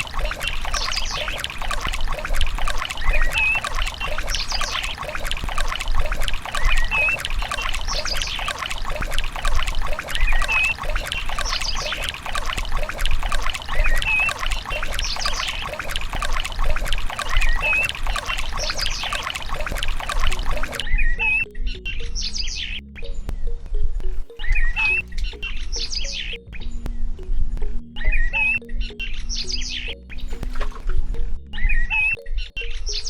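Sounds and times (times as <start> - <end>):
water pouring and trickling: 0.0 - 21.2, 24.0 - 26.5, 28.0 - 31.8.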